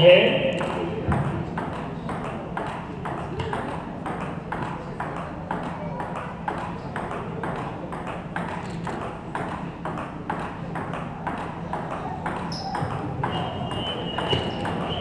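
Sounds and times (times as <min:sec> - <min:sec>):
table tennis ball clicking: 0:01.5 - 0:14.9.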